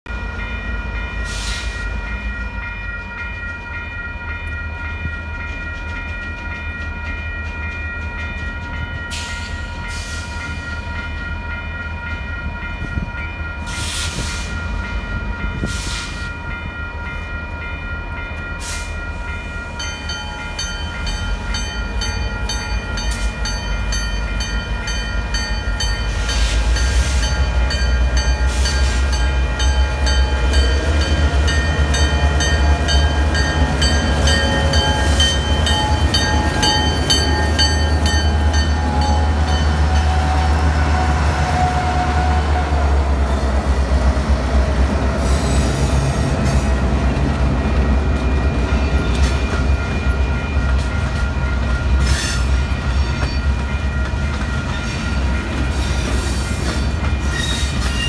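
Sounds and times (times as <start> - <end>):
locomotive bell ringing: 0.1 - 44.7, 45.3 - 58.0
diesel locomotive engine rumble: 0.1 - 58.0.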